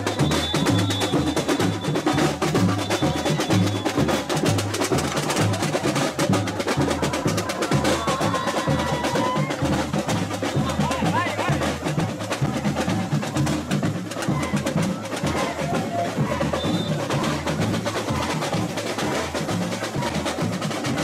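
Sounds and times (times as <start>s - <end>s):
snare and hand percussion rattle: 0.0s - 21.0s.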